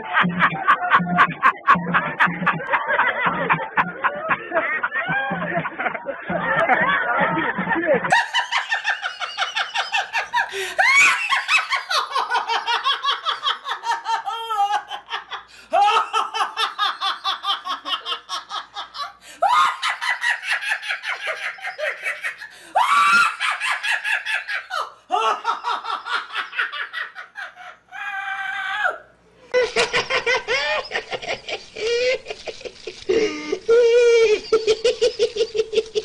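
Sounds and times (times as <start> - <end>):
high-pitched laughter: 0.0 - 36.0.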